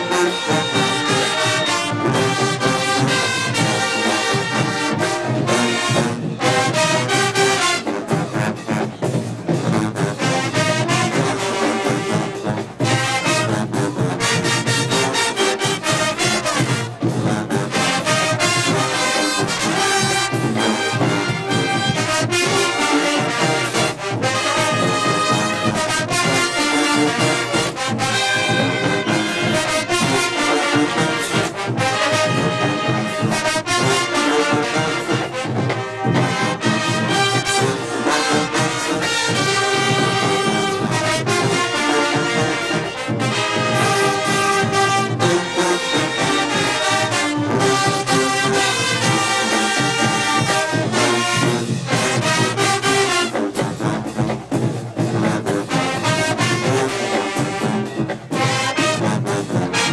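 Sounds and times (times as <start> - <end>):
marching band brass music: 0.0 - 59.9
steady drum beat: 0.0 - 59.9.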